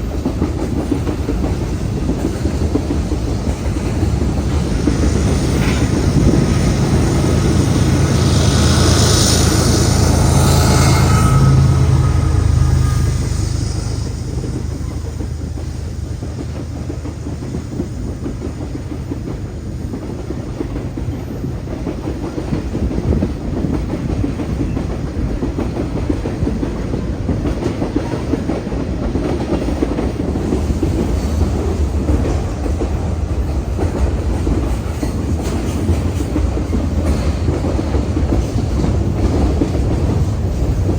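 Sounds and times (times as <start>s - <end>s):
diesel locomotive engine: 0.0s - 40.9s
train wheels clattering: 0.0s - 40.9s.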